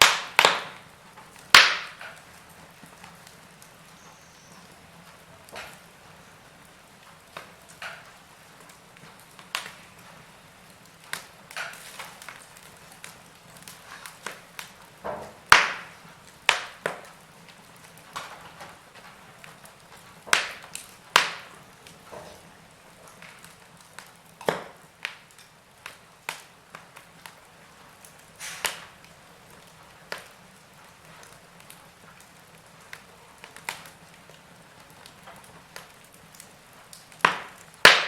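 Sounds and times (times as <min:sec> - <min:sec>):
faint steady hiss: 0:00.0 - 0:38.0
fire pops and snaps: 0:00.0 - 0:38.0
logs crackling in fireplace: 0:00.0 - 0:38.0.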